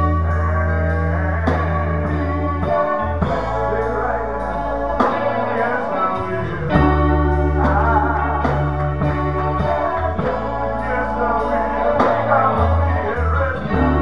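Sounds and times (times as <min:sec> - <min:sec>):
electric bass low notes: 0:00.0 - 0:14.0
electric guitar: 0:00.0 - 0:14.0
man singing: 0:00.0 - 0:14.0.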